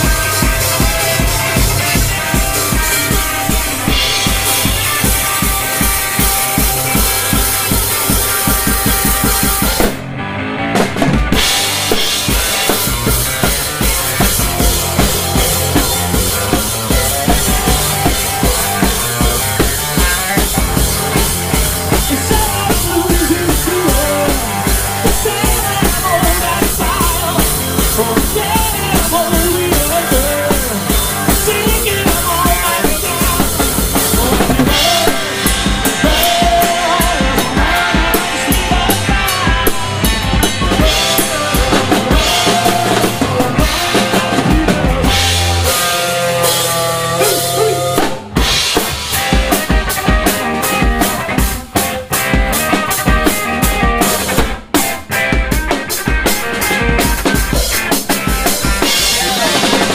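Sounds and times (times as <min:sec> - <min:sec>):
drum kit beat: 0:00.0 - 0:10.1, 0:10.8 - 0:59.9
electric guitar: 0:00.0 - 0:59.9.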